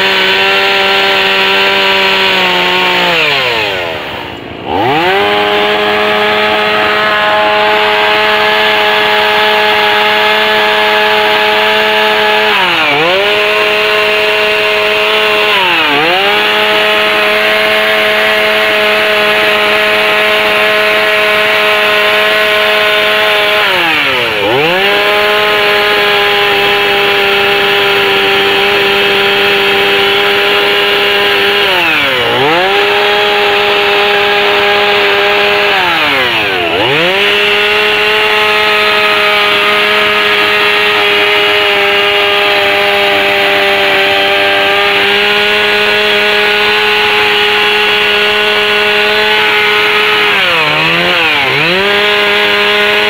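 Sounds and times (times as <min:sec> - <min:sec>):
chainsaw carving into log: 0:00.0 - 0:53.0.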